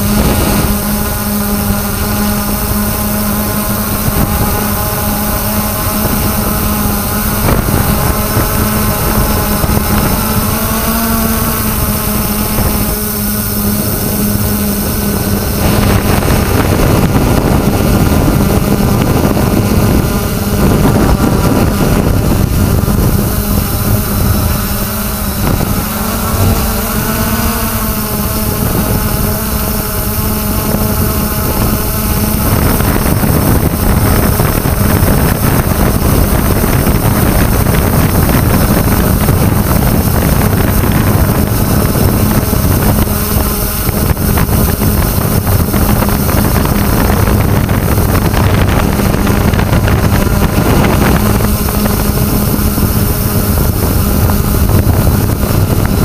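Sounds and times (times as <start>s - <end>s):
drone motors buzzing: 0.0s - 56.0s
wind over microphone: 0.0s - 56.0s.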